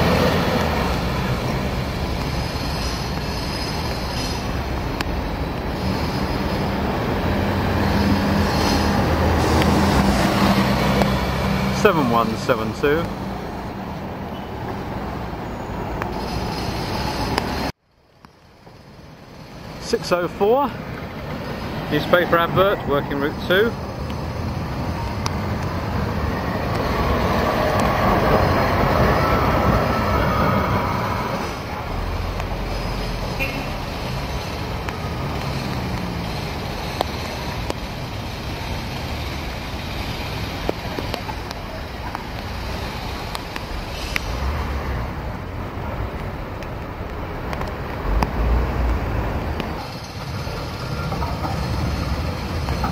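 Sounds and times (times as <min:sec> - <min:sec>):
bus engine running: 0:00.0 - 0:17.8, 0:18.5 - 0:52.9
electric tram on rails: 0:00.0 - 0:52.9
street traffic noise: 0:00.0 - 0:52.9.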